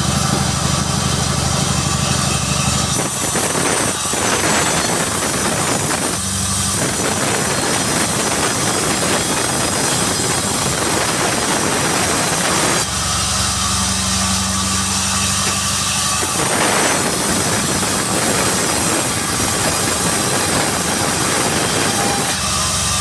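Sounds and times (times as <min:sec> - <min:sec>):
engine droning: 0:00.0 - 0:23.0
saw cutting through log: 0:00.0 - 0:23.0.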